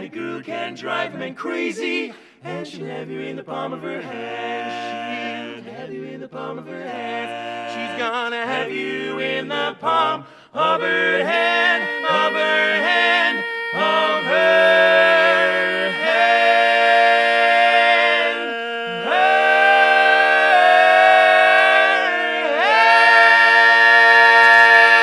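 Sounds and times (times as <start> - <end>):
barbershop quartet singing: 0.0 - 25.0.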